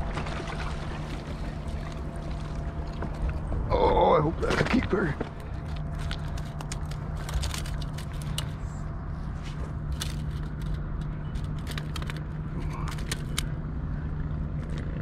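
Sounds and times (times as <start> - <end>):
low hum of road traffic: 0.0 - 15.0.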